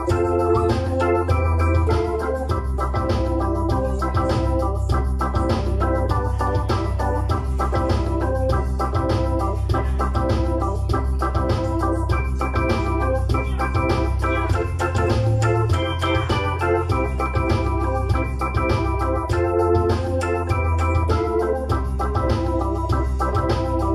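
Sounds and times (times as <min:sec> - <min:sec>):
electronic keyboard organ chords: 0:00.0 - 0:23.9.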